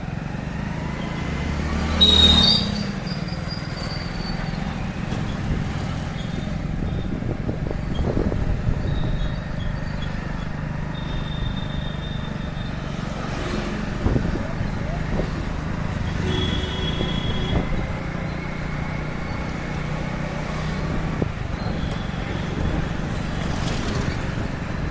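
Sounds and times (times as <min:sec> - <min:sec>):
motorbike road and wind noise: 0:00.0 - 0:24.9.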